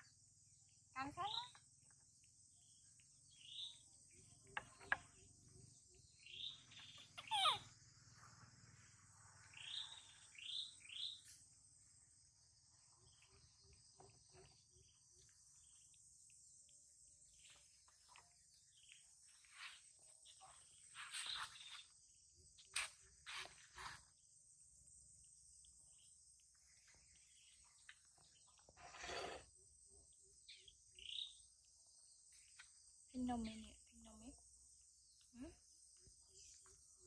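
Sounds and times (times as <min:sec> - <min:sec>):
crickets and insects chirring: 0:00.0 - 0:37.0.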